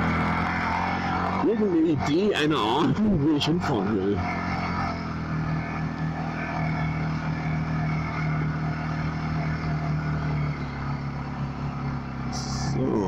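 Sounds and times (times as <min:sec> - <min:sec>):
quad bike engine running: 0:00.0 - 0:13.0
tyres on dirt track: 0:00.0 - 0:13.0.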